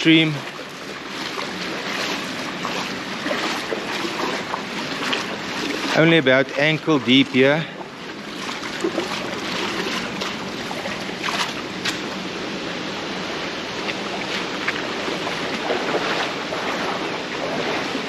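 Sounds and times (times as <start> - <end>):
flowing water rushing: 0.0 - 18.0
splashing footsteps in stream: 0.0 - 18.0.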